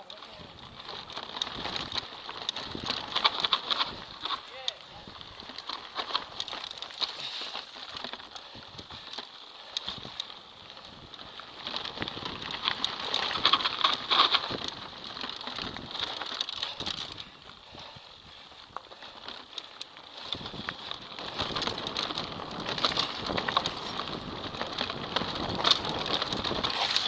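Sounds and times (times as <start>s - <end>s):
bike clicking and rattling: 0.0s - 27.0s
bike tyres crackling over dirt: 0.0s - 27.0s.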